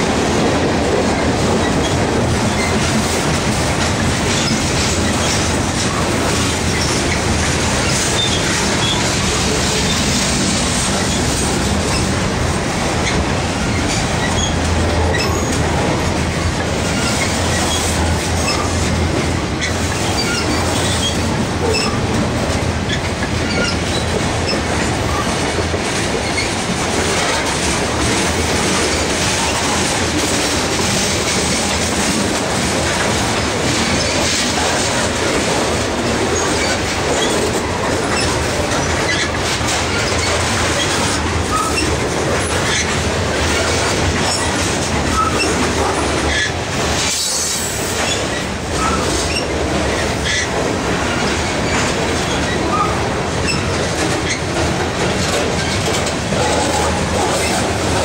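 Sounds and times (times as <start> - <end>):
clickety-clack over rail joints: 0.0 - 58.0
steel wheels rumbling on rail: 0.0 - 58.0.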